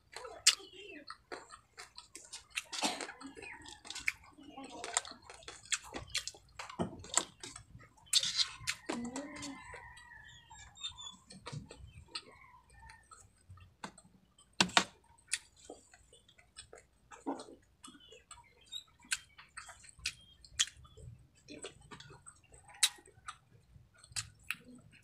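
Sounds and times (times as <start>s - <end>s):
crunchy chewing: 0.0s - 25.0s
wet mouth clicks: 0.1s - 12.3s, 13.8s - 23.4s.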